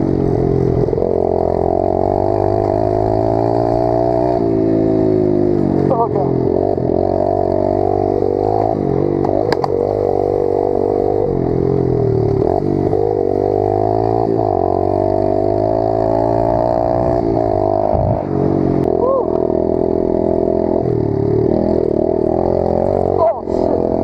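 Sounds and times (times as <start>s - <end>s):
small motorbike engine revving: 0.0s - 24.0s.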